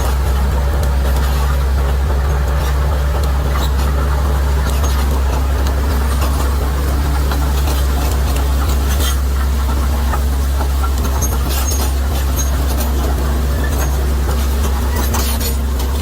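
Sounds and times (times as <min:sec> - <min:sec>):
bulldozer diesel engine humming: 0:00.0 - 0:16.0.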